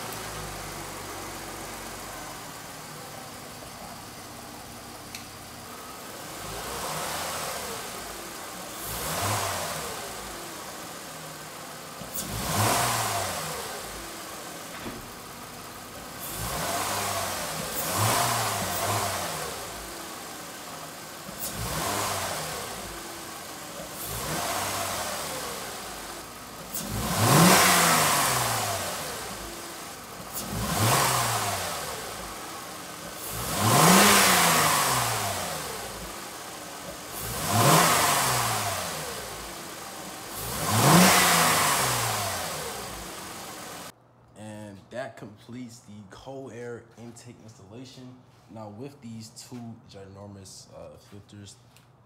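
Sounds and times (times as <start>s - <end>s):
air intake induction rush: 0.0s - 43.9s
car engine idling and revving: 0.0s - 44.0s.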